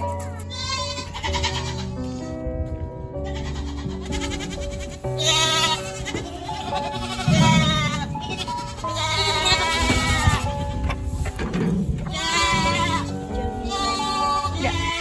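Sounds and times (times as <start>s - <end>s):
background music: 0.0s - 15.0s
goats bleating: 0.2s - 2.4s, 3.2s - 10.4s, 12.1s - 15.0s.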